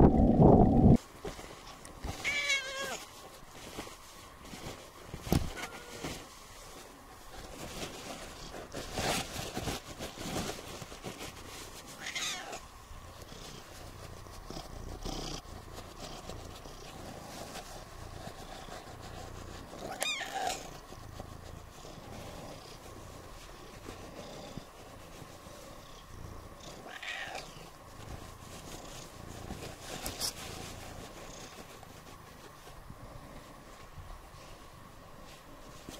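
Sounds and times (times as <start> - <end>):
cat purring: 6.8 - 35.9.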